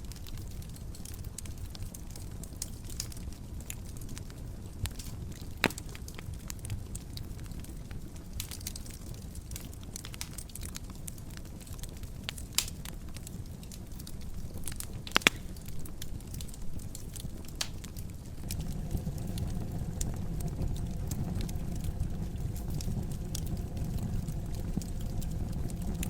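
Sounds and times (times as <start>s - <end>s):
low fire rumble: 0.0s - 26.0s
wood fire crackling and popping: 0.0s - 26.0s.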